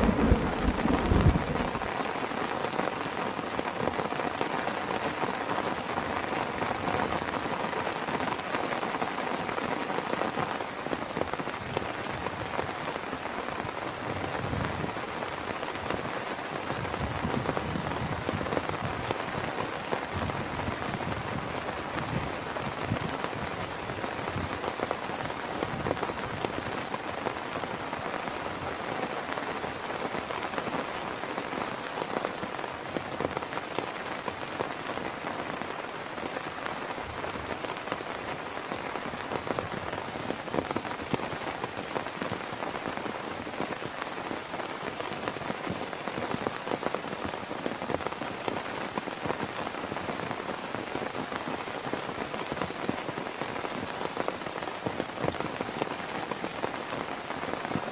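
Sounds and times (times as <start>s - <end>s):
heavy rain falling: 0.0s - 57.9s
raindrops ticking on a surface: 0.0s - 57.9s.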